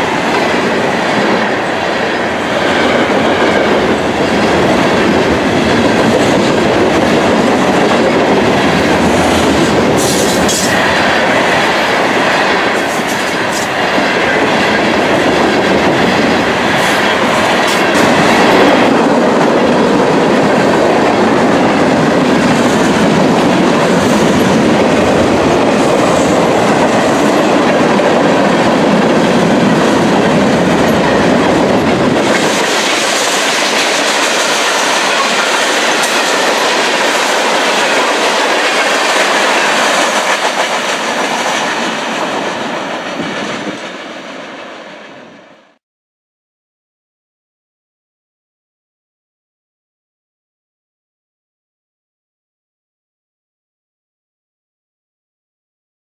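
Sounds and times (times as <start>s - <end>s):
freight train wheels on rails: 0.0s - 45.8s.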